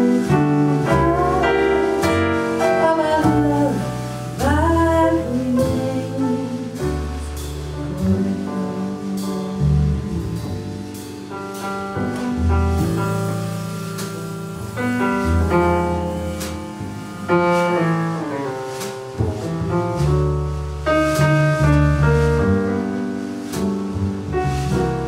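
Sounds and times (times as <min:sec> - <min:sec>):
jazz piano chords and melody: 0:00.0 - 0:25.0
plucked upright bass: 0:00.0 - 0:25.0.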